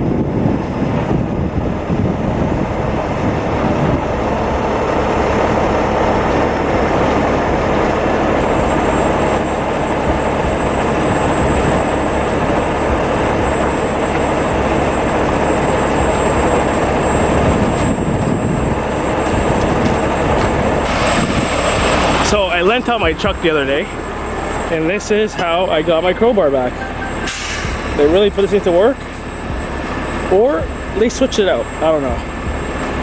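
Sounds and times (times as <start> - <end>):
diesel truck engine rumbling: 0.0 - 33.0.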